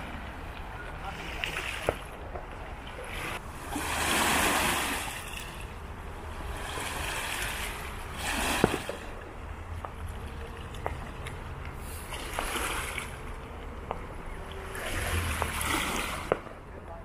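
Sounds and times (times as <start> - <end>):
lake water washing on shore: 0.0 - 17.0.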